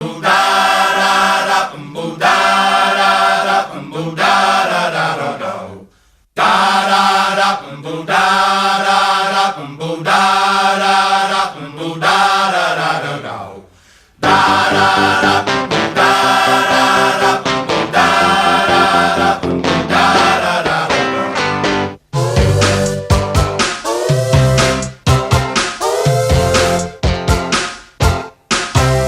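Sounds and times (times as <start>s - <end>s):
choir-like chanted vocal music: 0.0s - 21.6s, 22.2s - 24.8s, 25.6s - 27.0s.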